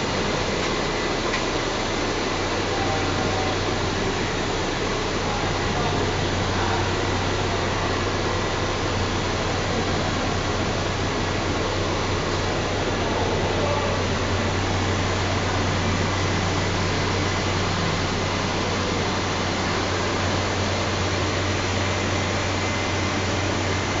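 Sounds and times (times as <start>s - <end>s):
burner blower fan rushing: 0.0s - 24.0s.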